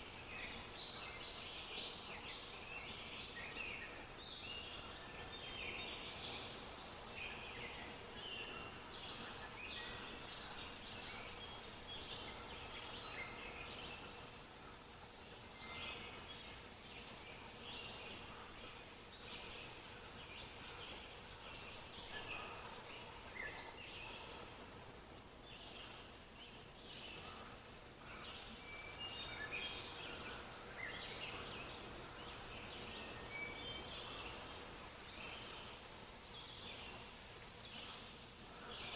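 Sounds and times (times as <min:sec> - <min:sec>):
small birds chirping: 0:00.0 - 0:38.9
soft steady hiss: 0:00.0 - 0:38.9.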